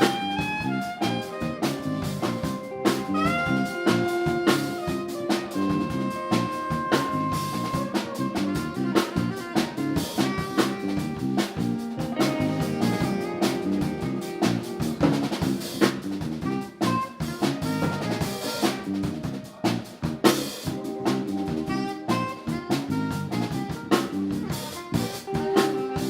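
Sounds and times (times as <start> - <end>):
drum kit beat: 0.0 - 26.0
live band playing instrumental: 0.0 - 26.0.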